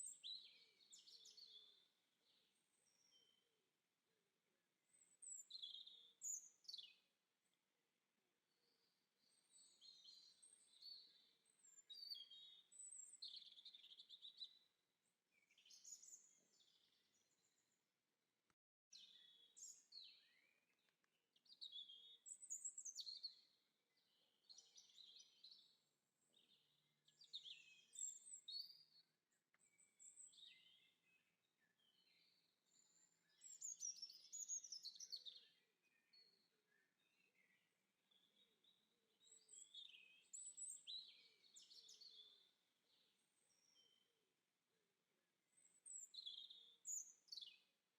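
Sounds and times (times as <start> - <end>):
faint songbird chirps and trills: 0.0 - 3.7, 4.8 - 7.6, 8.5 - 17.8, 18.9 - 47.9.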